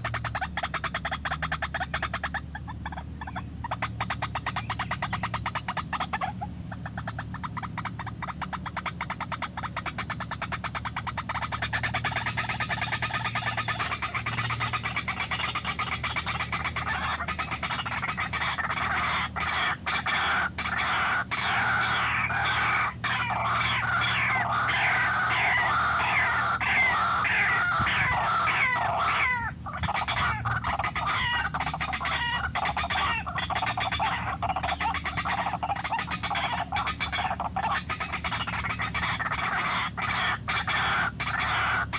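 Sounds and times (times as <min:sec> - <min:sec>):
steady low hum: 0:00.0 - 0:41.9
waterhen calling harshly: 0:00.0 - 0:41.9.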